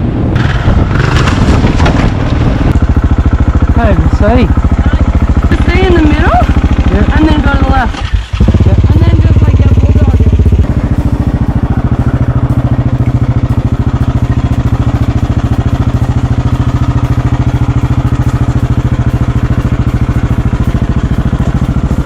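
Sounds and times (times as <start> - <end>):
motorcycle engine idling: 0.4 - 22.0.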